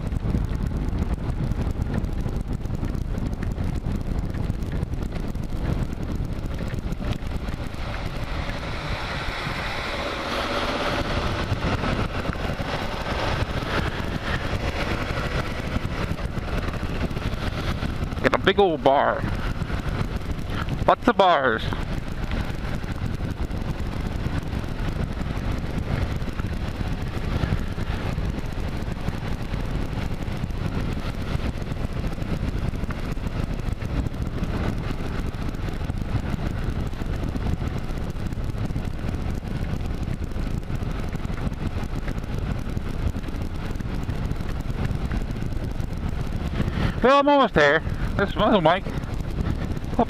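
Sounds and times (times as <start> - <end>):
motorcycle engine running: 0.0 - 50.0
road noise: 0.0 - 50.0
wind rush: 0.0 - 50.0.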